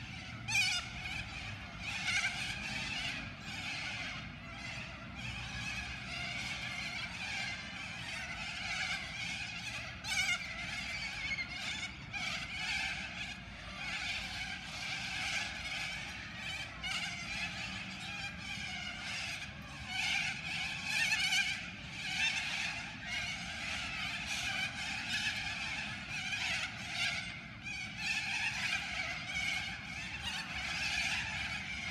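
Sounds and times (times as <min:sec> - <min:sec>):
flock of birds calling: 0:00.0 - 0:31.9.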